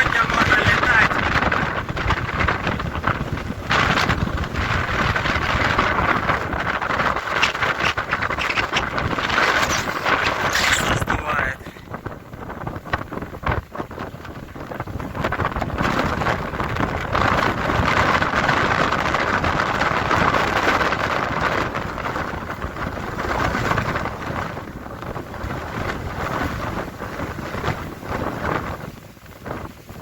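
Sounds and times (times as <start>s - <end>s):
gusting wind buffeting microphone: 0.0s - 30.0s.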